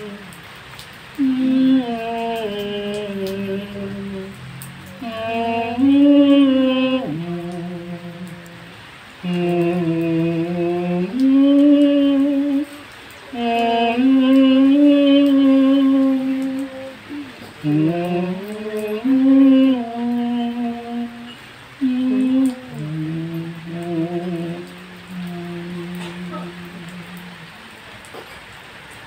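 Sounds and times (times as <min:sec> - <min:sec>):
woman chanting: 0:00.0 - 0:00.4, 0:01.2 - 0:27.7.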